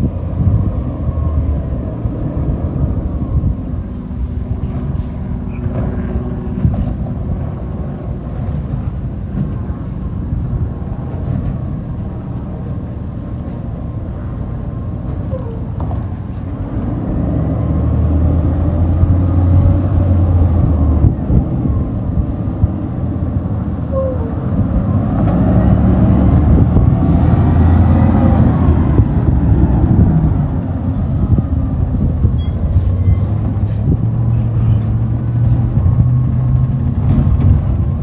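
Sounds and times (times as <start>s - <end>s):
garbage truck engine rumble: 0.0s - 38.0s.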